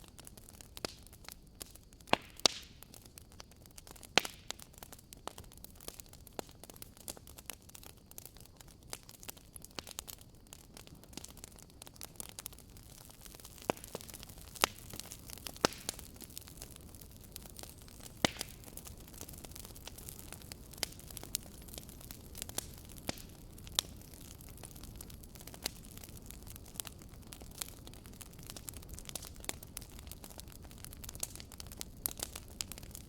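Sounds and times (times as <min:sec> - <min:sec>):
low steady hiss: 0:00.0 - 0:33.0
wood fire crackling: 0:00.0 - 0:33.0.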